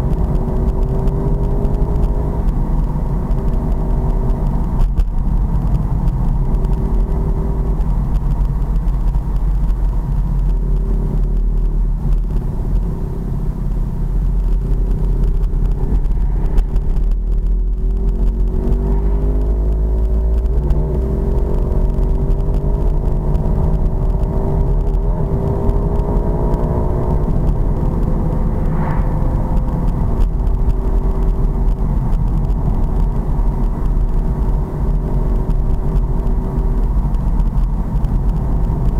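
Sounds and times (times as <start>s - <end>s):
low rumble: 0.0s - 38.9s.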